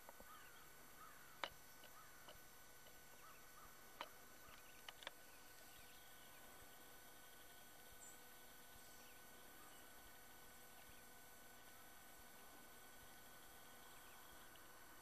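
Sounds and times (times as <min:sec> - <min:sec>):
faint bird chirps: 0:00.2 - 0:02.4, 0:03.0 - 0:15.0.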